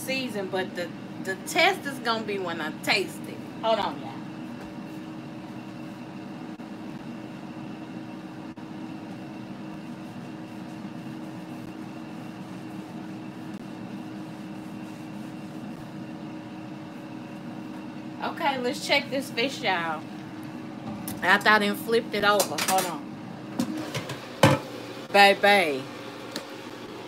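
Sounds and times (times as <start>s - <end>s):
air fryer humming: 0.0s - 27.0s.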